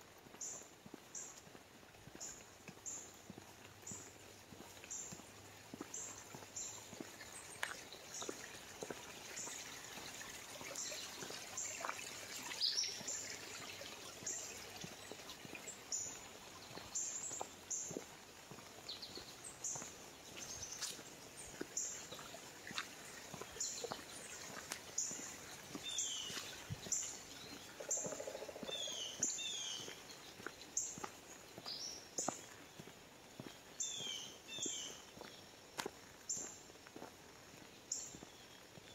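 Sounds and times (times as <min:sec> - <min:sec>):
footsteps on dirt and leaves: 0:00.0 - 0:38.9
birds chirping: 0:00.3 - 0:38.9.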